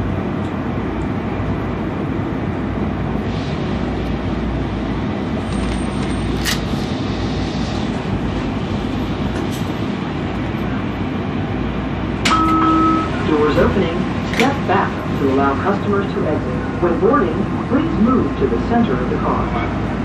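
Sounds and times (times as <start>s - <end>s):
train rumbling through tunnel: 0.0s - 20.0s.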